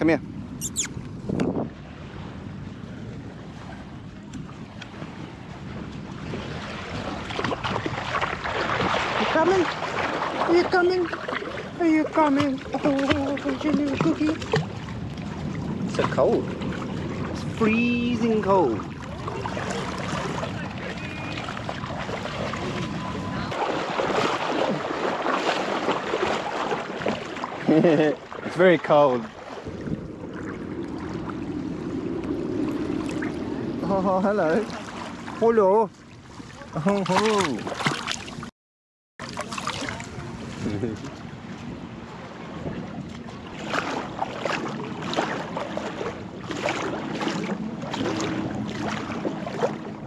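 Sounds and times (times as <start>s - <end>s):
water splashing around wading legs: 5.8s - 38.5s, 39.2s - 50.0s.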